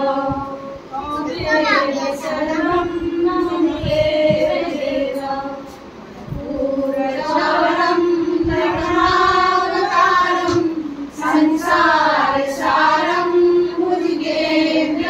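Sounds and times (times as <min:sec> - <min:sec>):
women singing devotional song: 0:00.0 - 0:15.0.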